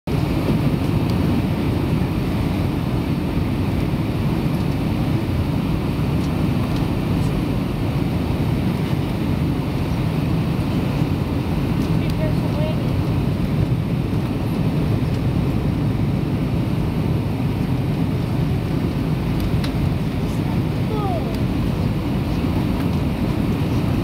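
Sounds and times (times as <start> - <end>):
aircraft cabin engine noise: 0.1 - 24.0.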